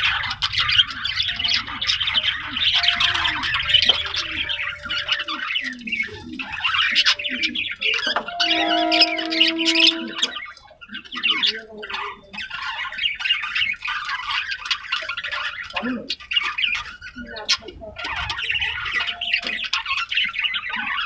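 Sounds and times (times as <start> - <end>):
budgerigars chattering and squawking: 0.0 - 21.0.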